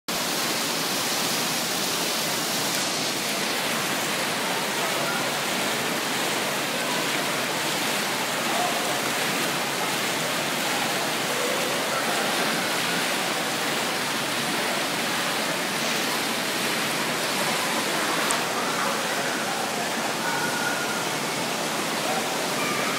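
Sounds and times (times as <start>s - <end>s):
water rushing and splashing: 0.1s - 22.9s
faint voices of swimmers: 1.6s - 22.9s.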